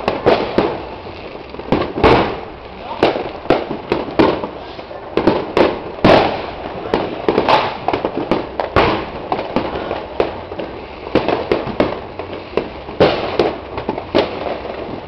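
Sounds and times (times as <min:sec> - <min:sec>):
fireworks bangs and pops: 0:00.0 - 0:15.0
loud firework booms: 0:00.0 - 0:15.0.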